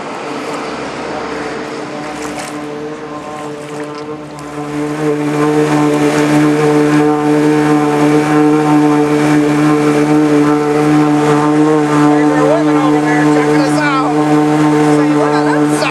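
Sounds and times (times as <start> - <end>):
boat engine running: 0.0 - 15.9.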